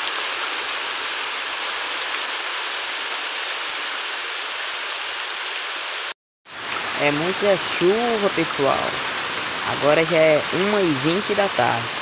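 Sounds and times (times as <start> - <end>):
rain falling on foliage: 0.0 - 12.0.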